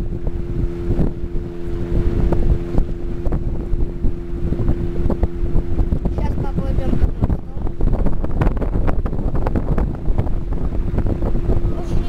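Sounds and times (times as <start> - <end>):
motorboat engine humming: 0.0 - 12.0
wind buffeting microphone: 0.0 - 12.0.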